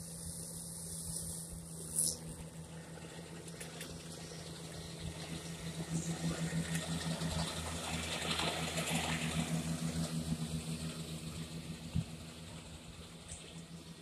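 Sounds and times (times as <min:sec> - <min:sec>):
hay mower cutting: 0:00.0 - 0:14.0
tractor engine: 0:00.0 - 0:14.0.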